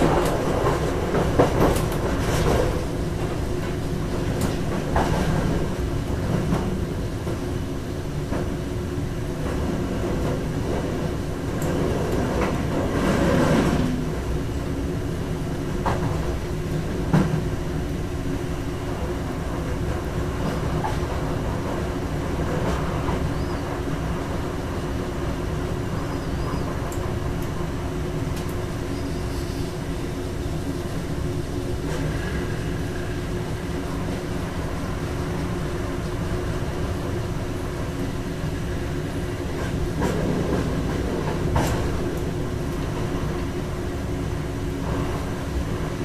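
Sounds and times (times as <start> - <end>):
electric train rumble and hum: 0.0 - 46.0.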